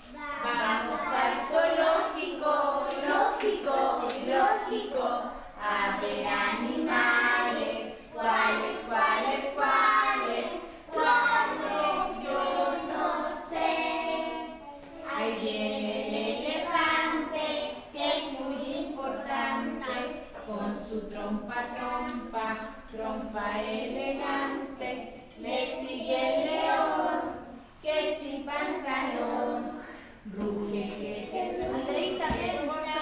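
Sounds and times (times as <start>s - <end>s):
children singing: 0.0s - 33.0s.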